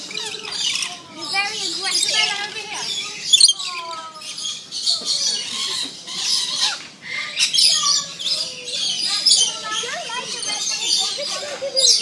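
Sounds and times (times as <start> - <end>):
parrots screeching: 0.0 - 12.0.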